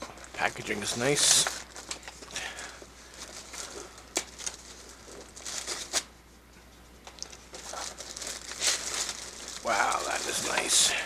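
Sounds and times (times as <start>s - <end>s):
packing material crinkling: 0.2s - 6.1s, 7.2s - 11.0s.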